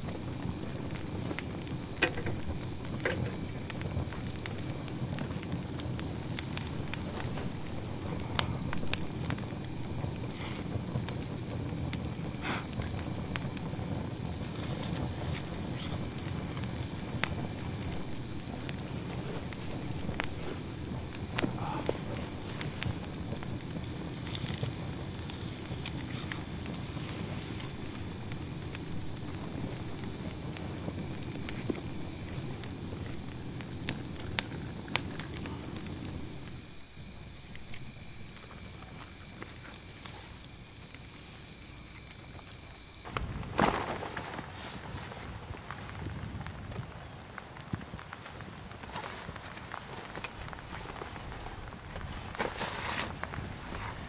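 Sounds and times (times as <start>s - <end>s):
night insects trilling: 0.0s - 44.4s
campfire crackling and popping: 0.0s - 54.0s.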